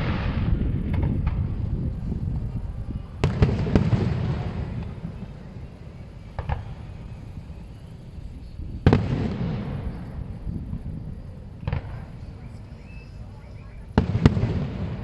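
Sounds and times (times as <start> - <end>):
low rumble: 0.0 - 12.8.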